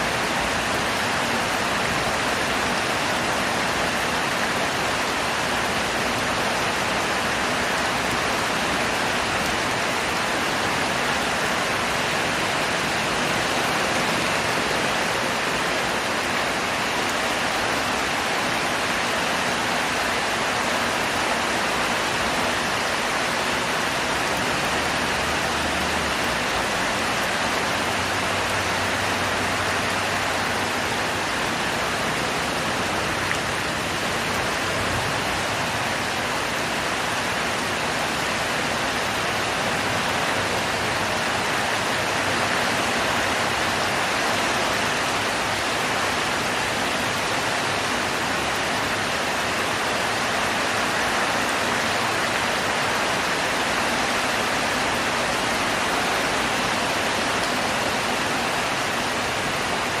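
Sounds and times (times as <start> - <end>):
heavy rain: 0.0 - 60.0.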